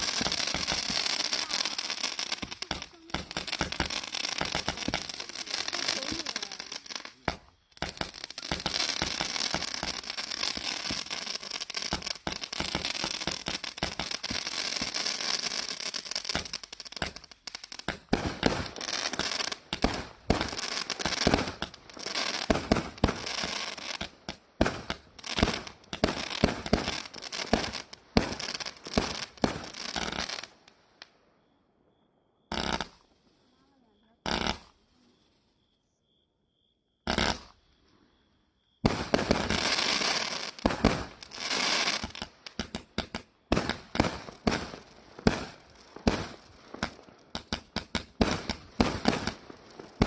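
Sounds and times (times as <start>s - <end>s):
fireworks cake firing: 0.0s - 30.7s, 32.5s - 34.8s, 37.1s - 37.6s, 38.8s - 50.0s.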